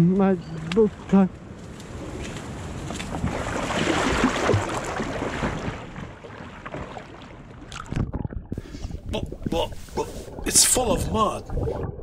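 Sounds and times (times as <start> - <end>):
water sloshing from wading: 0.9 - 12.0.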